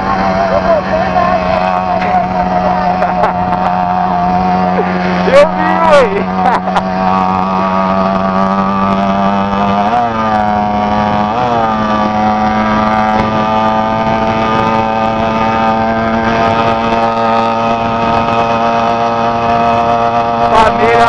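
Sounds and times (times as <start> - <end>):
two-stroke engine revving: 0.0 - 21.0.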